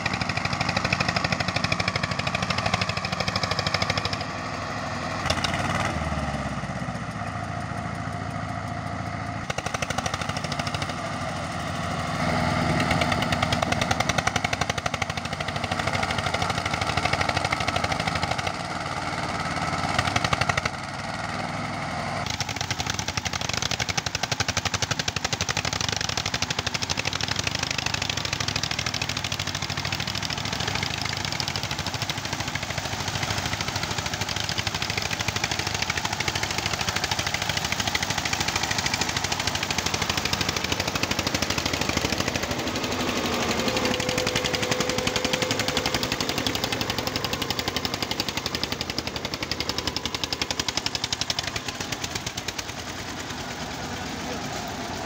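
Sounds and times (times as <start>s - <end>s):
diesel tractor engines clattering: 0.0s - 55.0s.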